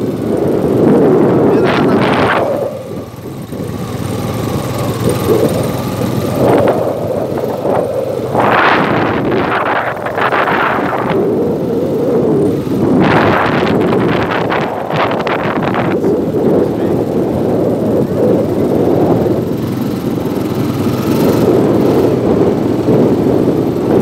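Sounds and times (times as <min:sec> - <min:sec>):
quad bike engine running: 0:00.0 - 0:24.0
wind buffeting microphone: 0:00.0 - 0:24.0.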